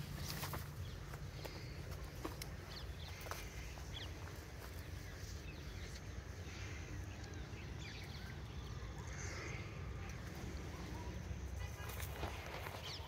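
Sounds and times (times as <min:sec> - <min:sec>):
faint bird chirps: 0:00.2 - 0:13.0.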